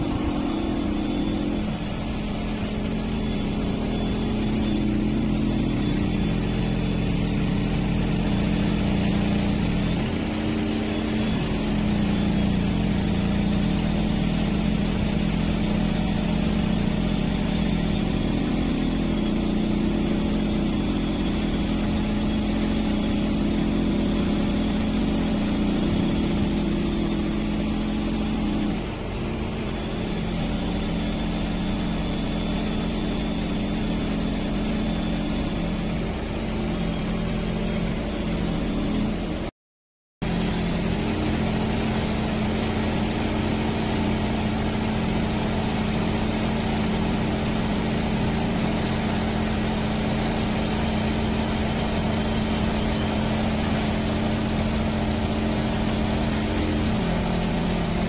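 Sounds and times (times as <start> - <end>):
drilling rig engine hum: 0.0 - 39.5, 40.2 - 58.0.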